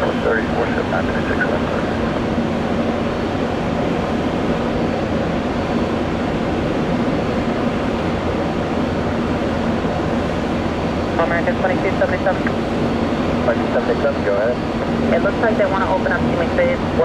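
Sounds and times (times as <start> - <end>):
faint steady hum: 0.0 - 17.0
jet engine rush: 0.0 - 17.0.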